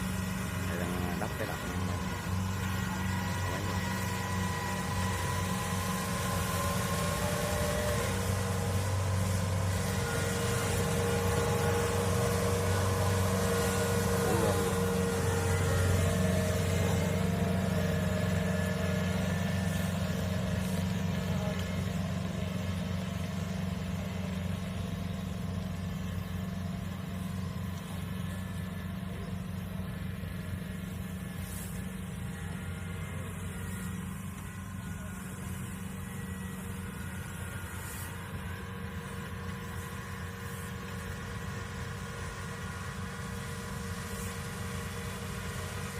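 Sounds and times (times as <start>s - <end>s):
diesel engine droning: 0.0s - 45.9s
steady machine whine: 0.0s - 45.9s.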